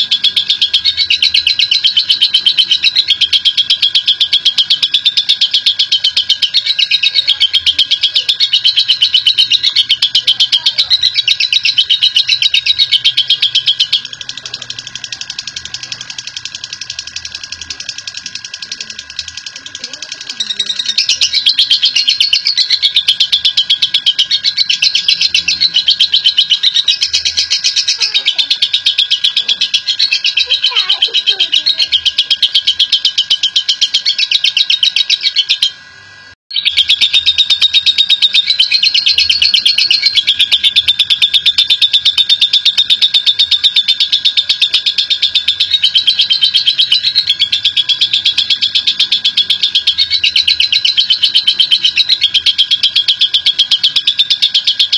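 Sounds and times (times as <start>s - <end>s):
lovebird chattering: 0.0s - 54.9s.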